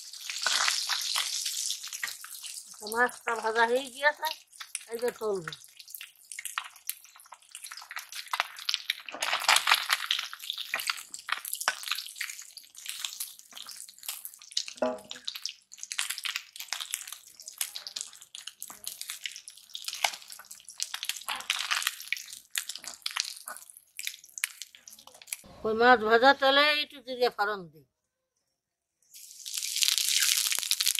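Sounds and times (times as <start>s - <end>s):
fish sizzling in hot oil: 0.0s - 25.5s, 29.0s - 30.9s.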